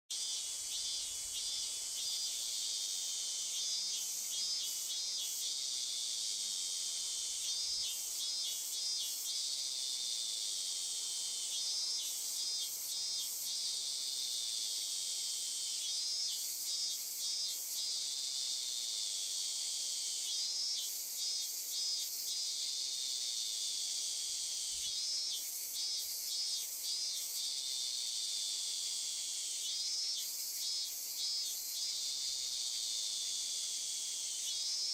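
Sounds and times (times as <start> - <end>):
fast pulsed insect chirps: 0.1 - 34.9
insects buzzing: 0.1 - 34.9.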